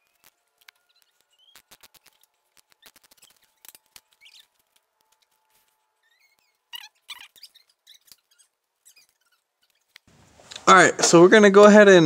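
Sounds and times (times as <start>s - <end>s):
high squeaks: 0.0s - 10.1s.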